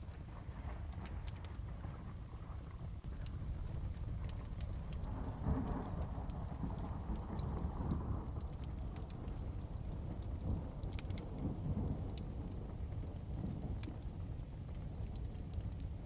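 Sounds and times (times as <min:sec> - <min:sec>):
low rumble of thunder: 0:00.0 - 0:16.0
rain: 0:00.0 - 0:16.0
wood fire crackling: 0:00.0 - 0:16.0.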